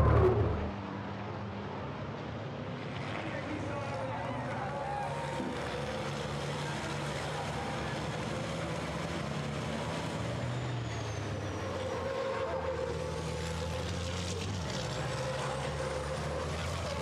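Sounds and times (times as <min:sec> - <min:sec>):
diesel truck engines racing past: 0:00.0 - 0:17.0.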